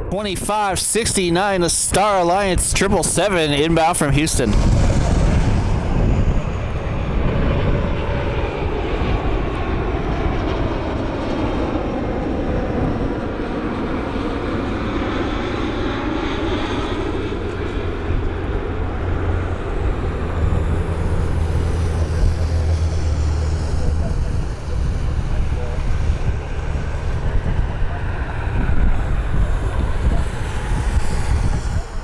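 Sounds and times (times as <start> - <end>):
jet engines rushing: 0.0 - 32.0
low hum: 0.0 - 32.0.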